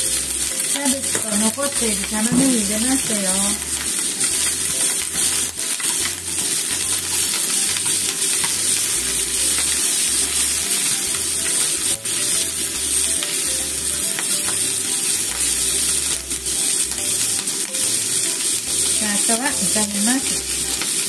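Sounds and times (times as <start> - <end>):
chopsticks clicking and scraping pan: 0.0 - 21.0
food sizzling in oil in frying pan: 0.0 - 21.0.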